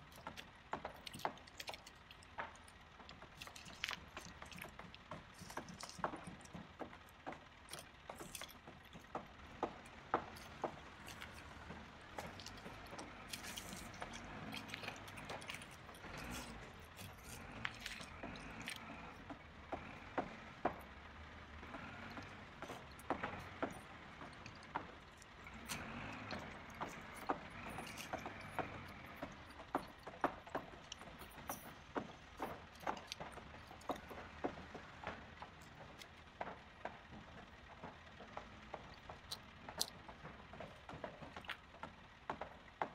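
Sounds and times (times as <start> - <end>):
toy trucks clattering: 0.0 - 21.0, 21.6 - 42.0.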